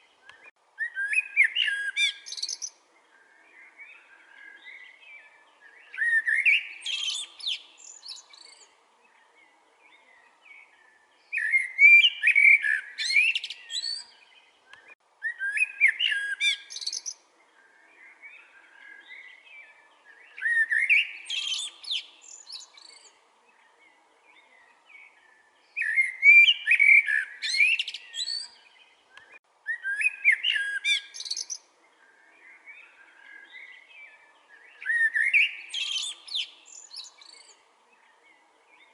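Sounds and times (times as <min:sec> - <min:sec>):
blackbird singing: 0:00.0 - 0:38.9.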